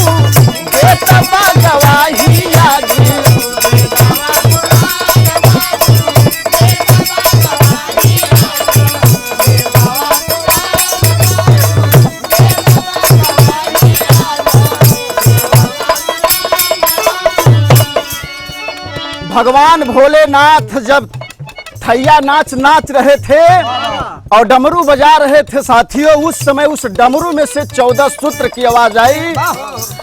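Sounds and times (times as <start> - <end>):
hand drum beat: 0.0 - 30.0
jingling clicking percussion: 0.0 - 30.0.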